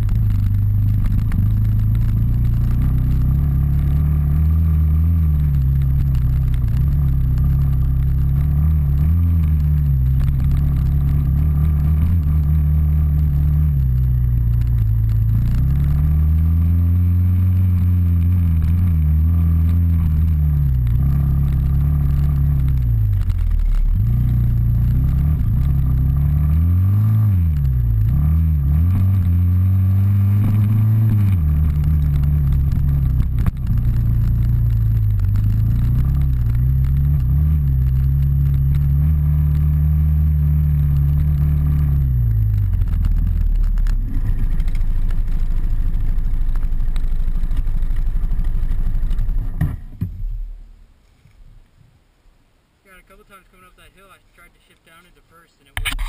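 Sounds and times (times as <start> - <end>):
off-road motorcycle engine revving: 0.0 - 50.1.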